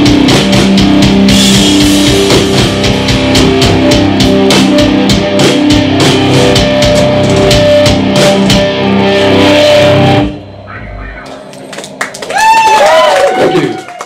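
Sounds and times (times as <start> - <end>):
live rock band playing: 0.0 - 11.9.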